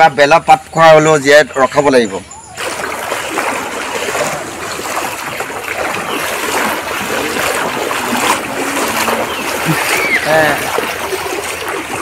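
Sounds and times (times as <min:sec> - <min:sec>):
wading through sloshing water: 0:01.7 - 0:12.0.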